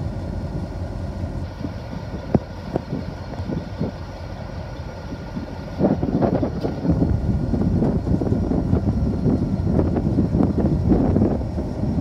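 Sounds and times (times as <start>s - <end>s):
locomotive engine idling: 0.0s - 12.0s.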